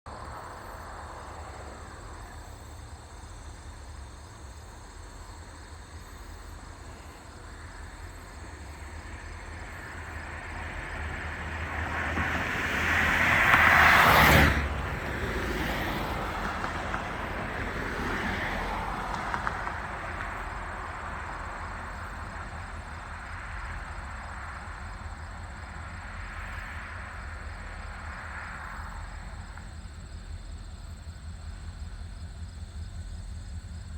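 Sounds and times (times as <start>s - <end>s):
train rumbling past: 0.1s - 33.9s.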